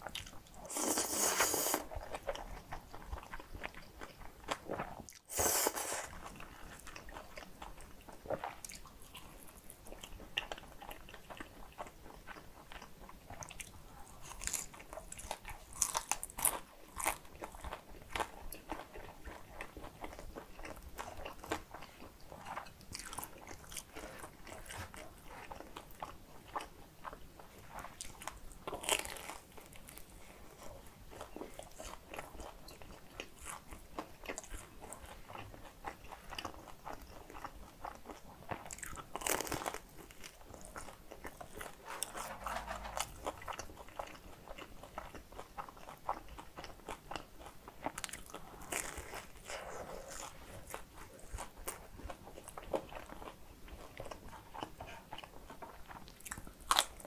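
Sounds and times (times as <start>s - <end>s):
crisp crunches of chewing: 0.0s - 57.0s
close chewing with wet clicks: 1.9s - 5.3s, 6.1s - 42.2s, 43.0s - 57.0s.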